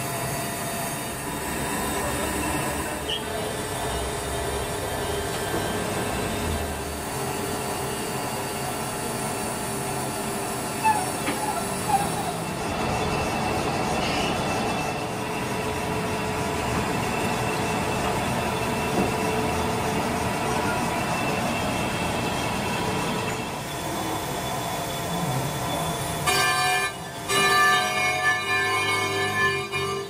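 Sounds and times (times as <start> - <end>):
industrial machinery noise: 0.0 - 30.0.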